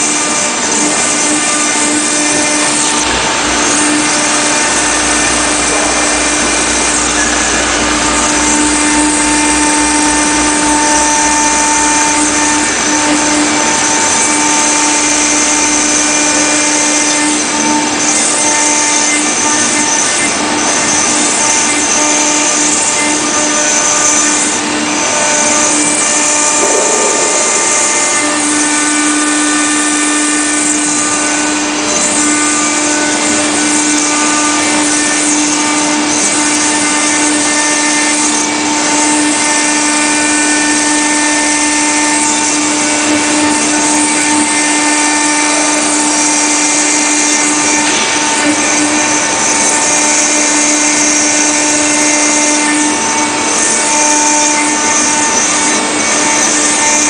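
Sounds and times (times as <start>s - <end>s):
hiss of cutting stone: 0.0s - 57.0s
router spindle whine: 0.0s - 57.0s.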